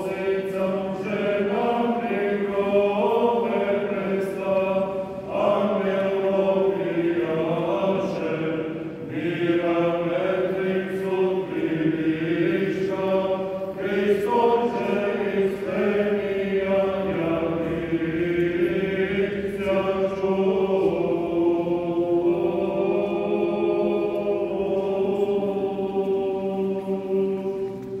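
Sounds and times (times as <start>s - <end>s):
men chanting a hymn: 0.0s - 27.9s.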